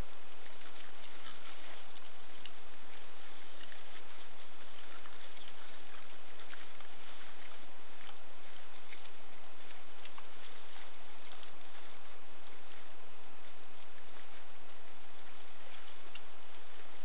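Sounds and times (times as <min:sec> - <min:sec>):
boar chewing and rooting in snow: 0:00.0 - 0:17.0
faint high whine: 0:00.0 - 0:17.0
low hum: 0:00.0 - 0:17.0
recording device hiss: 0:00.0 - 0:17.0.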